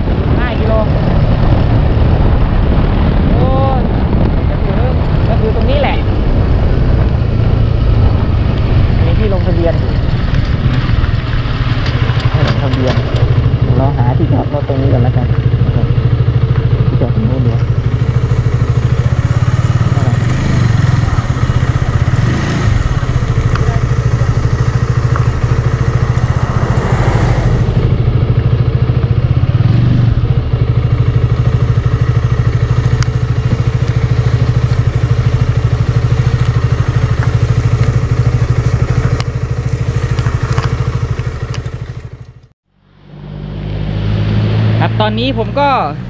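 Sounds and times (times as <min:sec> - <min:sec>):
motorcycle engine running: 0:00.0 - 0:46.0
road and wind noise: 0:00.0 - 0:46.0.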